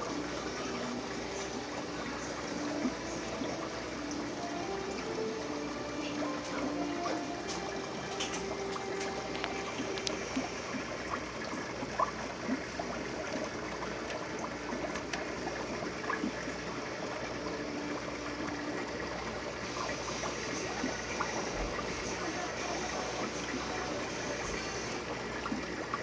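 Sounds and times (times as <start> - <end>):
aquarium filter water bubbling: 0.0 - 26.0.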